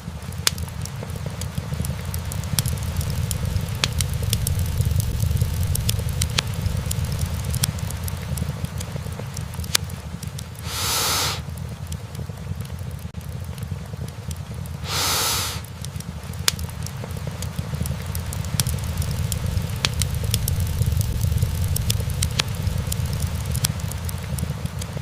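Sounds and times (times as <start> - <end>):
fire hissing: 0.0 - 12.7, 13.3 - 25.0
fire rumbling: 0.0 - 25.0
logs crackling and popping: 0.0 - 25.0.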